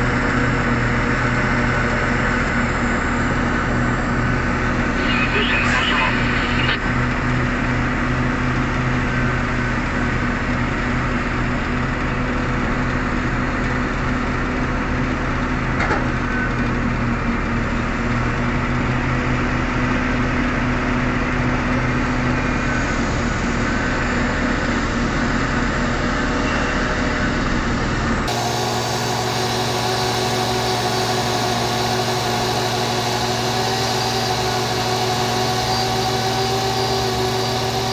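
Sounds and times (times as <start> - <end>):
heavy diesel engines running: 0.0 - 37.9.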